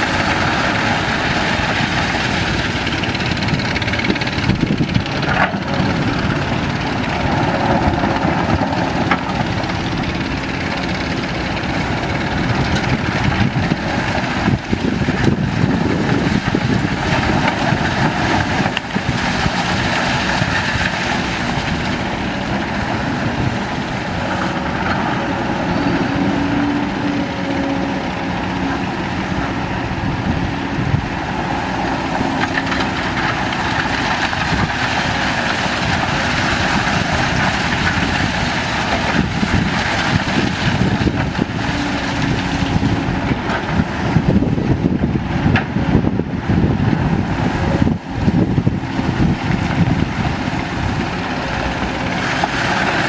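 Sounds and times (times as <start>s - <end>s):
excavator diesel engines running: 0.0s - 53.0s.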